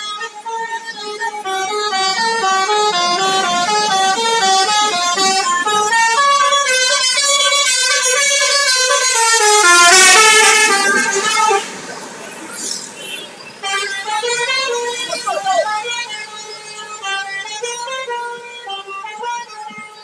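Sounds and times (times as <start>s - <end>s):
bus air horn playing tune: 0.0s - 12.2s, 12.9s - 20.0s.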